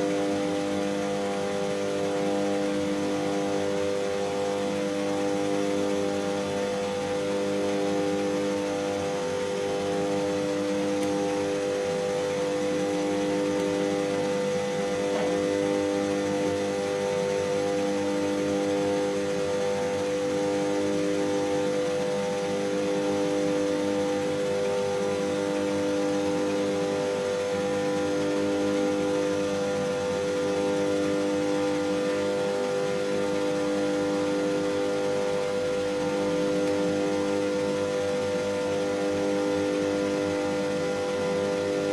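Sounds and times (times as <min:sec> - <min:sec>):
fans and ballasts humming: 0:00.0 - 0:41.9.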